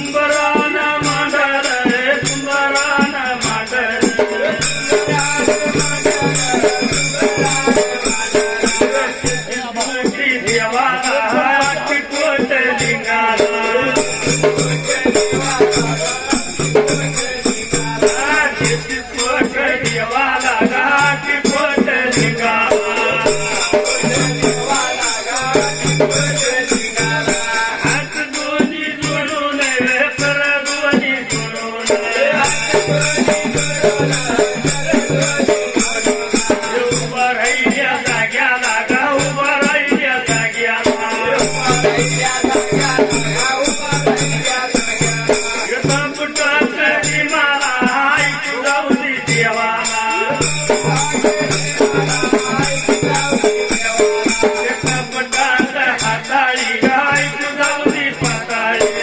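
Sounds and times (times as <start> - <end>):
drum beats: 0.0 - 59.0
rattling jingling percussion: 0.0 - 59.0.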